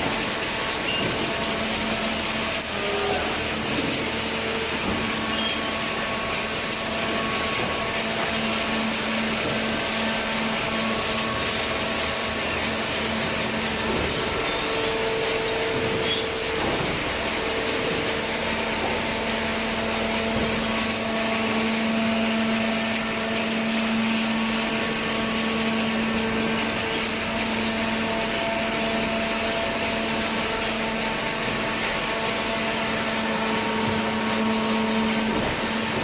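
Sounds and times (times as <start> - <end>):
hydraulic unit hum: 0.0 - 36.0.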